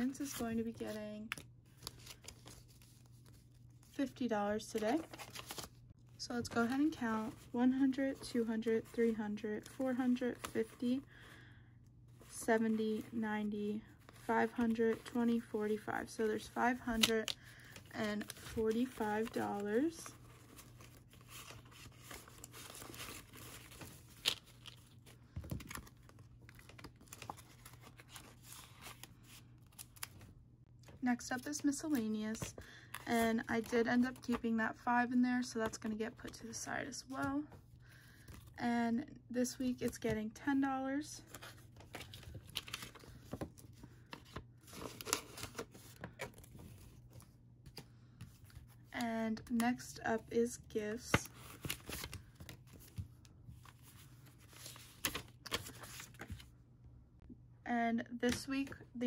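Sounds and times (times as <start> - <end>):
banknotes rustling and crinkling: 0.0 - 38.6, 39.4 - 50.0, 50.6 - 56.6
low steady hum: 0.0 - 59.0.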